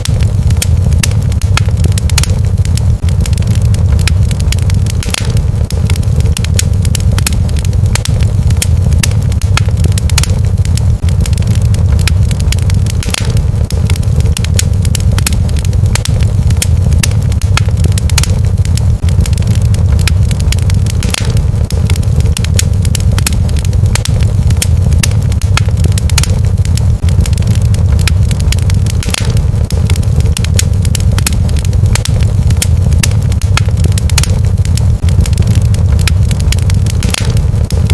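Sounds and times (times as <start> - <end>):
fire crackling and popping: 0.0 - 37.9
fire low rumble: 0.0 - 37.9.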